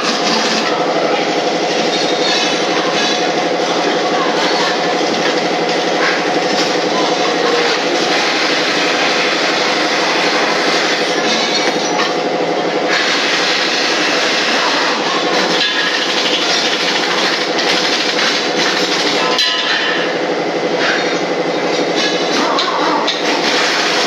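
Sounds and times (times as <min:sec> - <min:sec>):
machine running loudly: 0:00.0 - 0:24.0.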